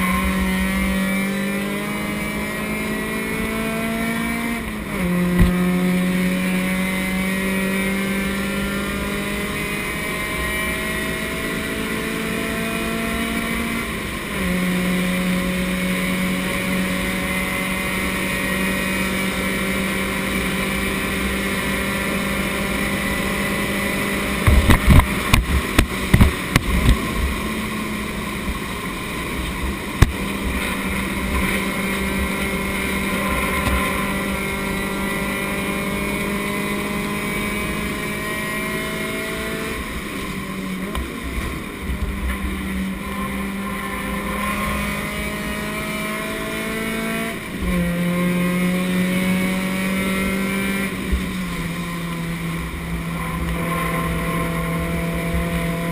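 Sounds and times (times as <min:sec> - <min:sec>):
race car engine under load: 0:00.0 - 0:55.9.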